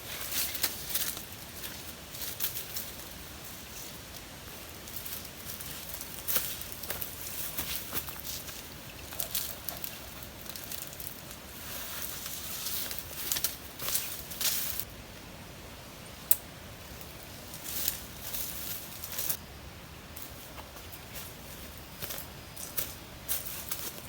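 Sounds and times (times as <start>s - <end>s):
rustling and scraping handling noise: 0.0s - 14.9s, 16.9s - 19.4s, 20.1s - 24.0s.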